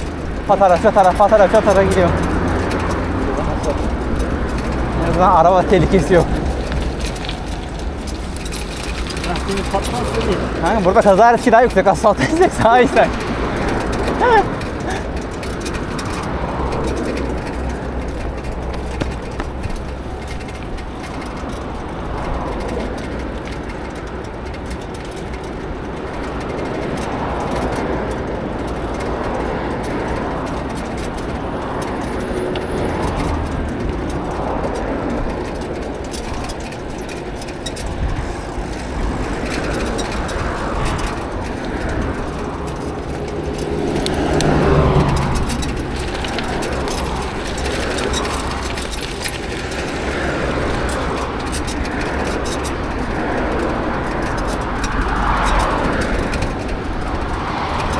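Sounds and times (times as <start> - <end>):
wind rush: 0.0 - 24.2, 31.4 - 57.9
bicycle tyre noise: 0.0 - 57.9.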